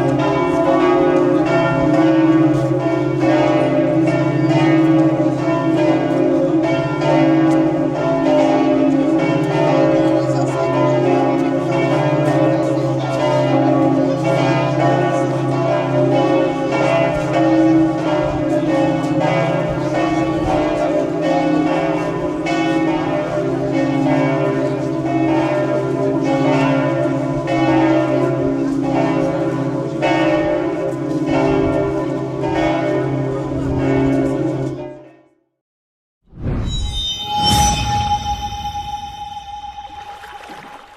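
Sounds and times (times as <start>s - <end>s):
church bells pealing: 0.0s - 35.1s.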